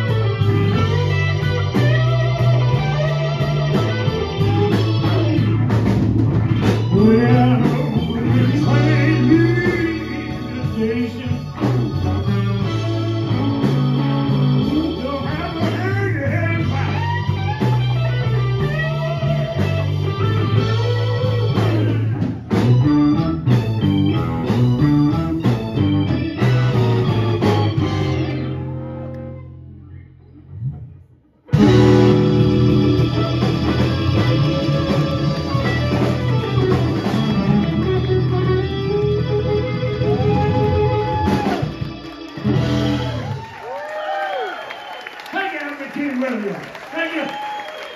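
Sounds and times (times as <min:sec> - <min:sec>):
electric guitar passage: 0:00.0 - 0:43.6
blues band playing: 0:00.0 - 0:47.9.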